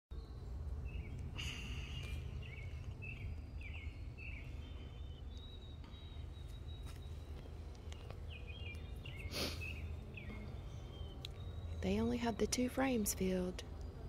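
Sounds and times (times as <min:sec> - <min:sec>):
bird chirping: 0:00.1 - 0:14.0
steady low rumble: 0:00.2 - 0:14.0.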